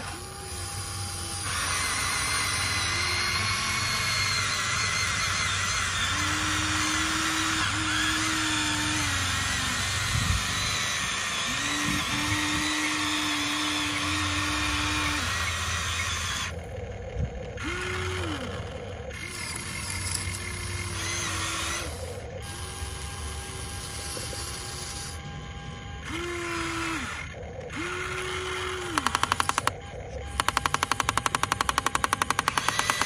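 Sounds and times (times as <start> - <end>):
toy excavator motors whirring: 0.0 - 33.0.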